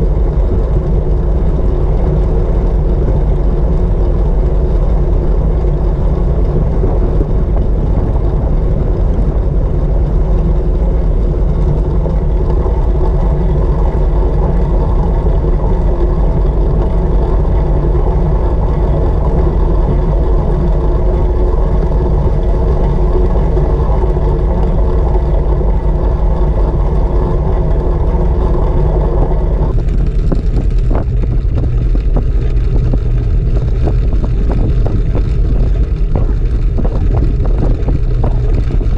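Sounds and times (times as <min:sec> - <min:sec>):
tyres rolling on wooden track: 0:00.0 - 0:38.9
wind rumble over camera: 0:00.0 - 0:38.9.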